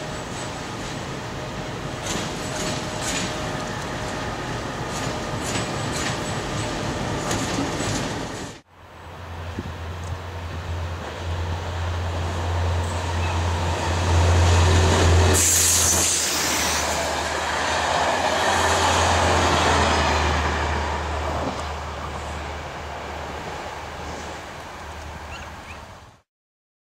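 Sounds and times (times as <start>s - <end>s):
train wheels on rails: 0.0s - 8.7s, 9.4s - 25.4s
diesel locomotive engine drone: 0.0s - 26.2s.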